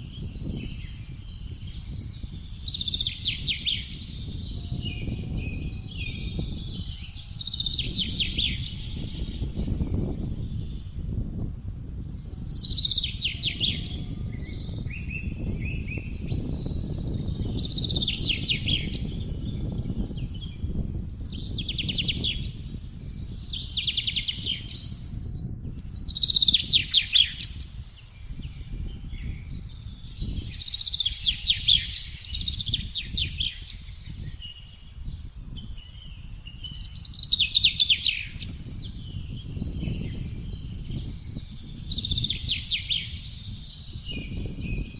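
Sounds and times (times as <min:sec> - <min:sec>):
low rush of wind: 0:00.0 - 0:44.9
songbird trilling: 0:00.0 - 0:44.9.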